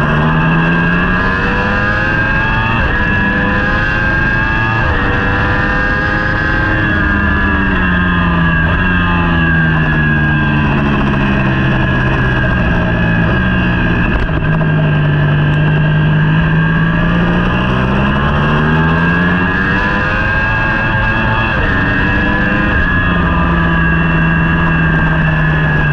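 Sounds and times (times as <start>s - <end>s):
motorcycle engine: 0.0s - 25.9s.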